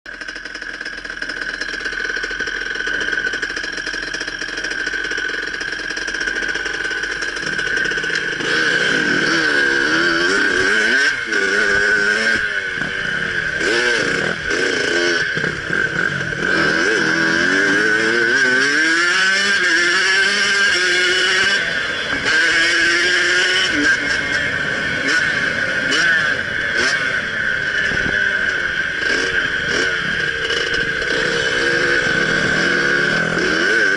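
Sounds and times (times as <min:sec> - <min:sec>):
motocross bike engine revving: 0:00.1 - 0:33.9.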